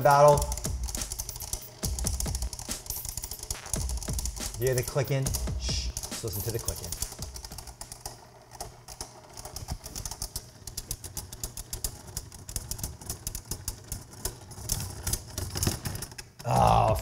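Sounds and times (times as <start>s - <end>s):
spinning tops clicking: 0.0s - 16.4s.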